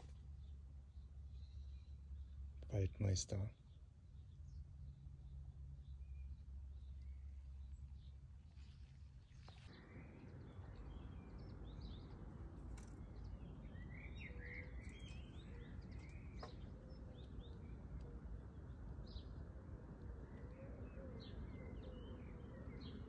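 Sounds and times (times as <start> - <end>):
birds chirping: 0.0 - 23.0
faint low background noise: 0.0 - 23.0.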